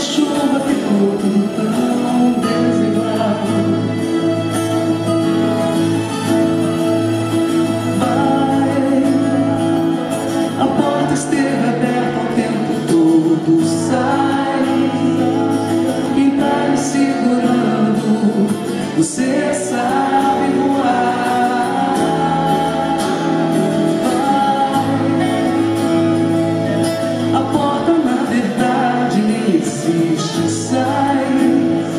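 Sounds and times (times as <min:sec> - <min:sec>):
guitar: 0:00.0 - 0:31.9.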